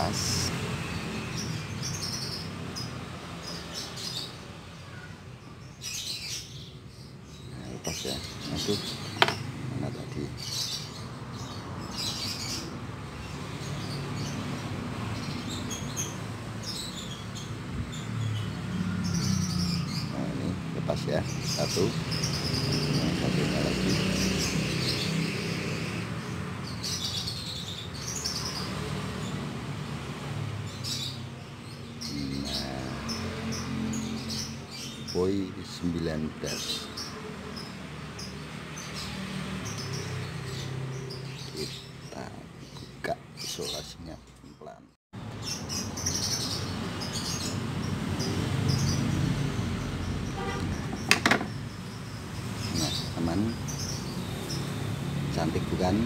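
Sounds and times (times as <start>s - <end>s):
canaries chirping: 0.0s - 56.0s.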